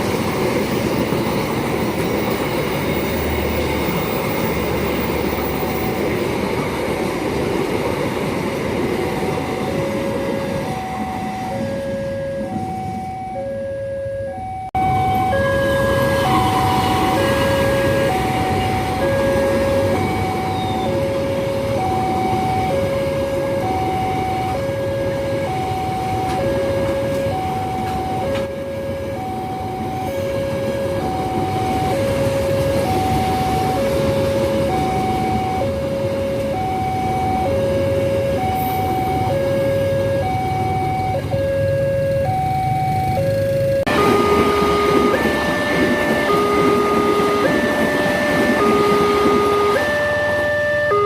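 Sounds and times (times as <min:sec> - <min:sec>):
two-tone level crossing alarm: 0:08.2 - 0:51.0.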